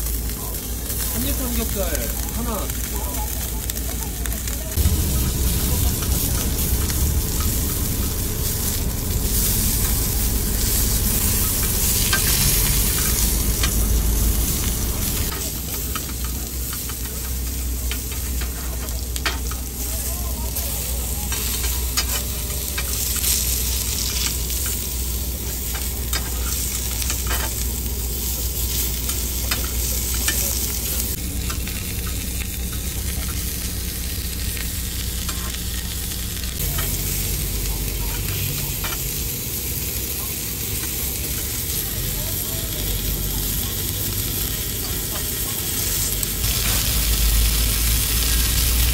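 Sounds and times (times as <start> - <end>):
meat sizzling on grill: 0.0 - 48.9.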